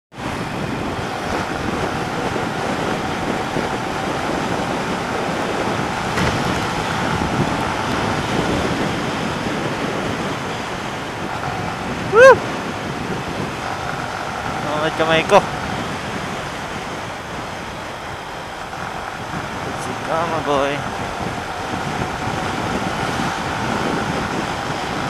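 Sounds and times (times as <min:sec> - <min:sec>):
wind rushing over microphone: 0:00.1 - 0:25.0.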